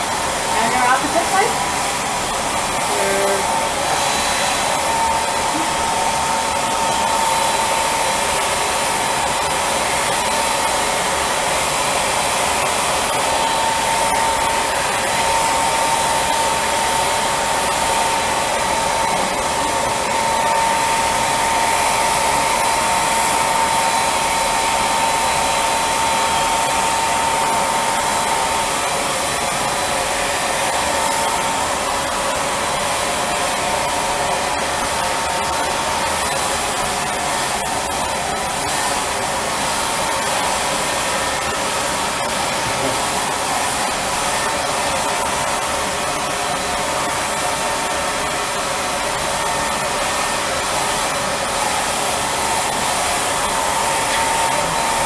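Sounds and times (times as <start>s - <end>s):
air blower rushing with whine: 0.0s - 55.0s.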